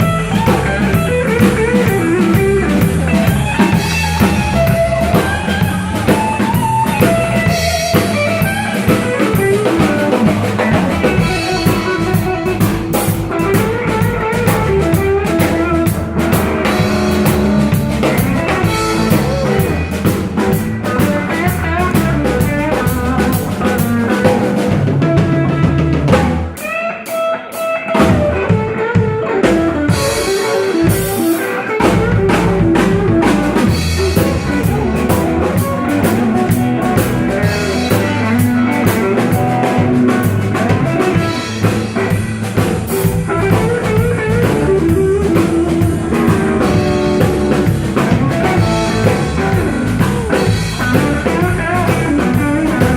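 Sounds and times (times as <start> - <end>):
blues band playing: 0.0 - 52.9.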